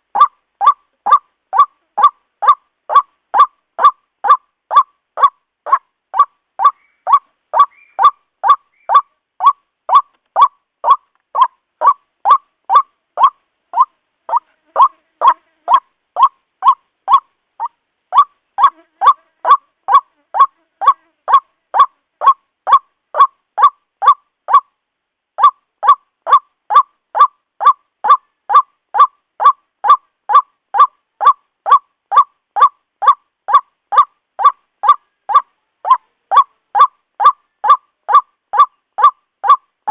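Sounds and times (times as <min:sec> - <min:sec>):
bird harsh repeated call: 0:00.0 - 0:24.8, 0:25.4 - 0:39.9.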